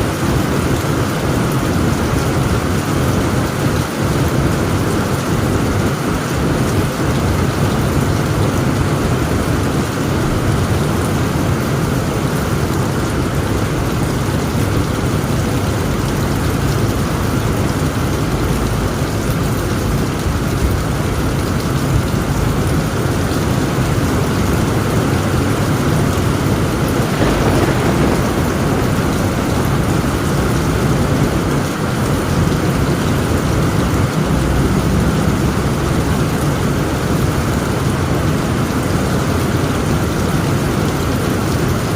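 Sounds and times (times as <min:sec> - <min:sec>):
low rumble of thunder: 0:00.0 - 0:41.8
heavy rain on a tent roof: 0:00.0 - 0:41.9.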